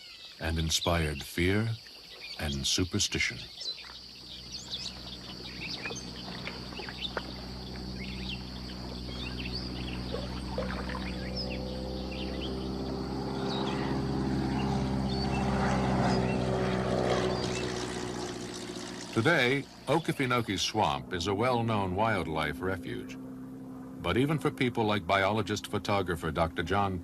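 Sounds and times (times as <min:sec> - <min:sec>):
birds chirping: 0:00.0 - 0:27.0
insects buzzing: 0:00.0 - 0:27.0
engine droning: 0:03.7 - 0:27.0.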